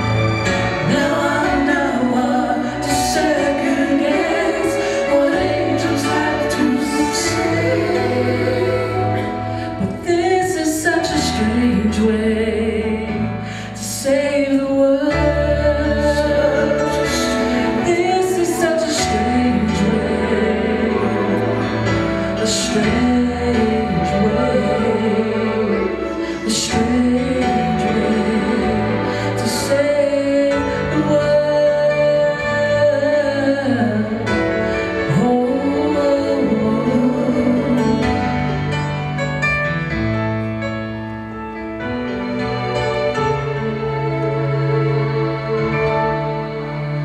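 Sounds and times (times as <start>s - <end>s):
instrumental backing with bass: 0.0s - 47.0s.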